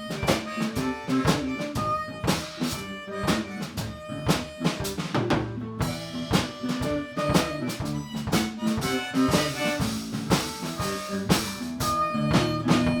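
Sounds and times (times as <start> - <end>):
blues band playing: 0.0 - 13.0
drum kit steady beat: 0.0 - 13.0.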